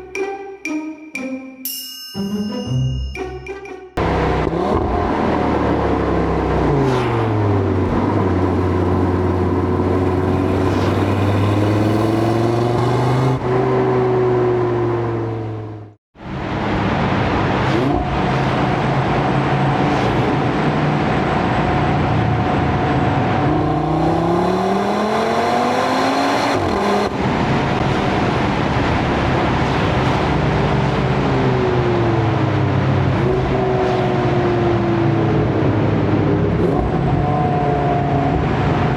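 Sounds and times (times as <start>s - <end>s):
car engine revving and shifting: 4.0s - 15.9s, 17.0s - 38.9s.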